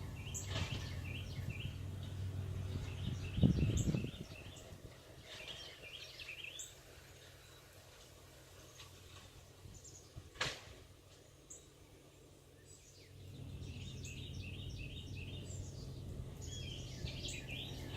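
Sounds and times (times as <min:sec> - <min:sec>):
songbirds chirping: 0:00.0 - 0:17.9.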